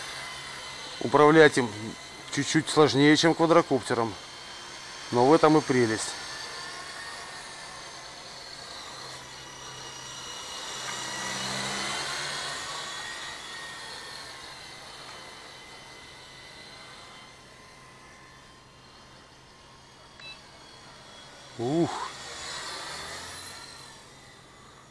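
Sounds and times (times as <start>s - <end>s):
rc helicopter rotor whine: 0.0s - 24.9s.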